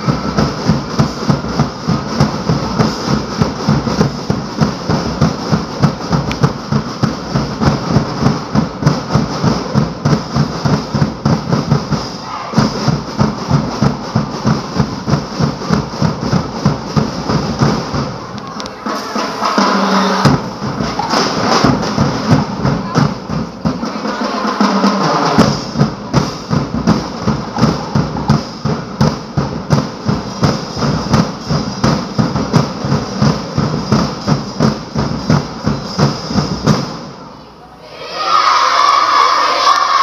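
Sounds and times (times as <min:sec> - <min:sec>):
drum-driven dance music: 0:00.0 - 0:37.3.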